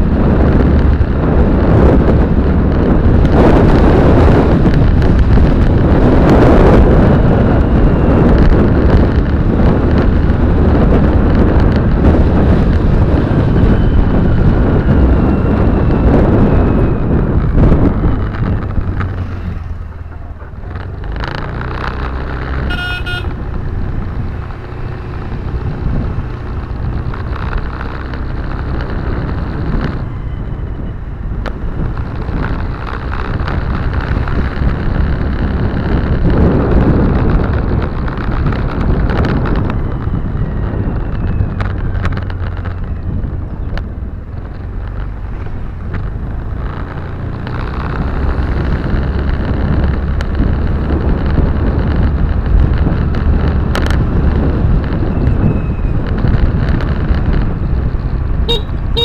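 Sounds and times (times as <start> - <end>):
car interior road rumble: 0.0 - 59.0.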